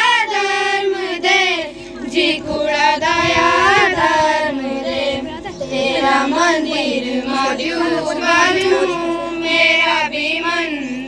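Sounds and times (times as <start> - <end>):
children singing a hymn: 0.0 - 11.0.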